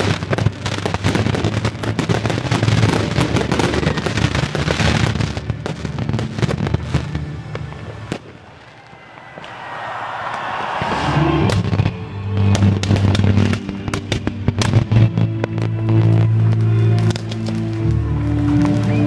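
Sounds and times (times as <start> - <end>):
fireworks bursts and crackling: 0.0 - 19.0.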